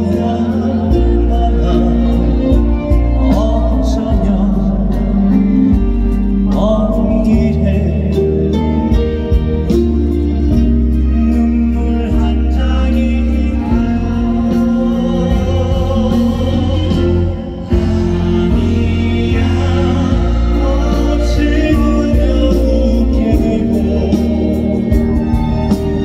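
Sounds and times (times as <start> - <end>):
live band playing: 0.0 - 26.0
person singing: 0.0 - 26.0.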